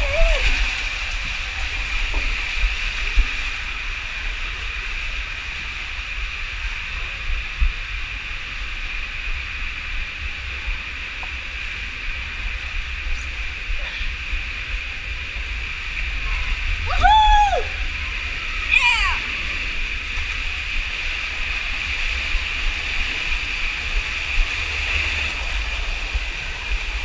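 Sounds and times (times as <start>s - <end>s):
steady low rumble: 0.0s - 27.0s
water rushing: 0.0s - 27.0s.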